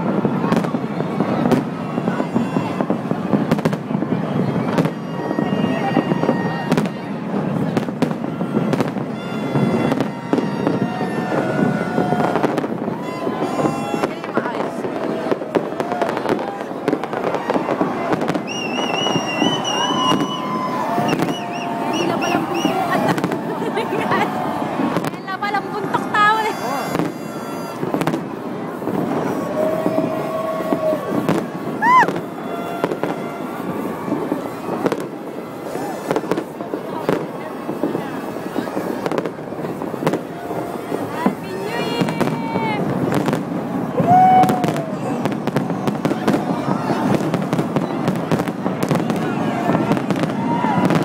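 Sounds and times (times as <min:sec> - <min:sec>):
fireworks bangs: 0:00.0 - 0:51.0
outdoor crowd noise: 0:00.0 - 0:51.0.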